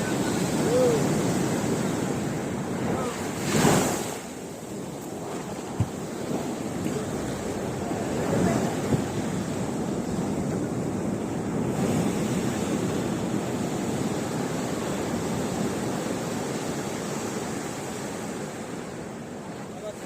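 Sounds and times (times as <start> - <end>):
wind buffeting microphone: 0.0 - 19.4
sea waves breaking: 0.0 - 20.0.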